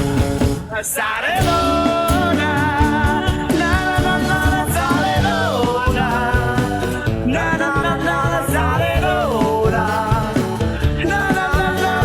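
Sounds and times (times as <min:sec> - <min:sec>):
live rock band playing: 0:00.0 - 0:00.8, 0:01.4 - 0:12.0
person singing: 0:00.7 - 0:12.0.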